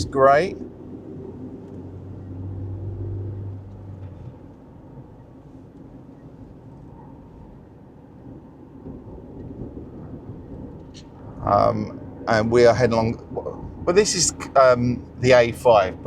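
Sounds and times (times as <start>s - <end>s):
car engine hum: 0.0s - 16.0s
road rumble: 0.0s - 16.0s.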